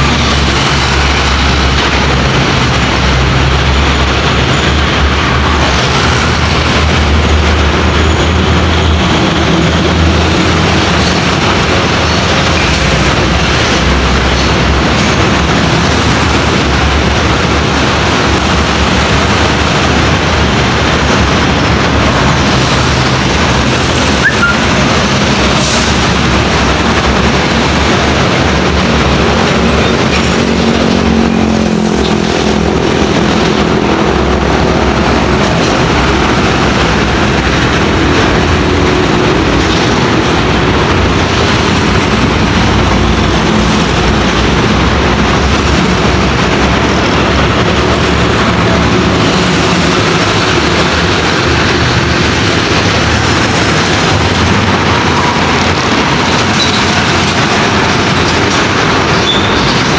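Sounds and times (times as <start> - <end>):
truck engines droning: 0.0 - 59.9.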